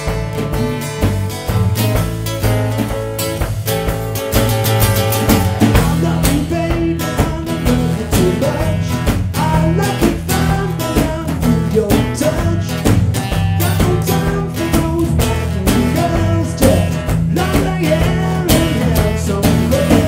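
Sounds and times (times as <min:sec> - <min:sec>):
rock blues band music: 0:00.0 - 0:20.0.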